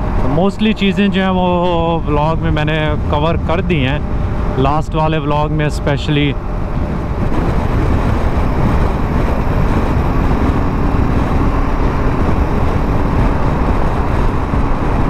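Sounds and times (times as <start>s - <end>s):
motorcycle engine and road rush: 0.0s - 15.0s.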